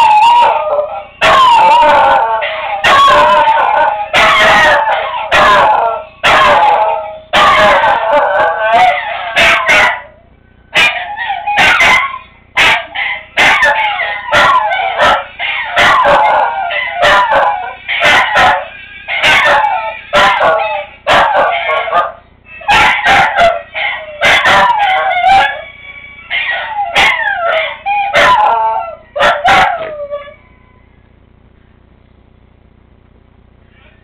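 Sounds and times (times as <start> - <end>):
dog yipping and barking: 0.0 - 10.1, 10.8 - 30.5
dog howling: 0.0 - 31.0.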